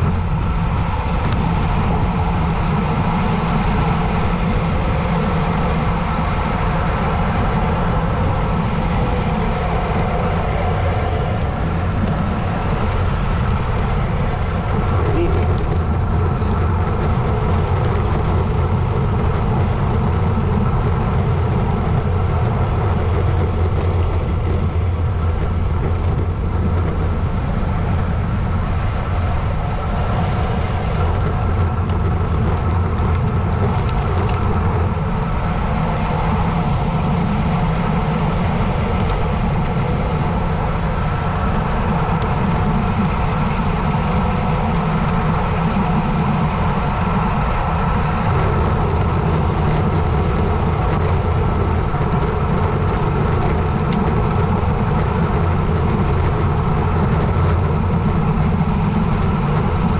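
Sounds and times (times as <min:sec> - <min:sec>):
bike tyres humming on asphalt: 0:00.0 - 0:59.9
wind roar on microphone: 0:00.0 - 0:59.9.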